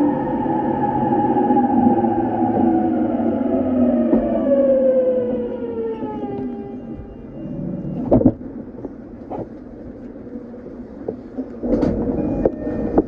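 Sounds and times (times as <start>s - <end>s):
train rolling at low speed: 0.0s - 13.0s
train rumble with steady hum: 0.0s - 13.0s.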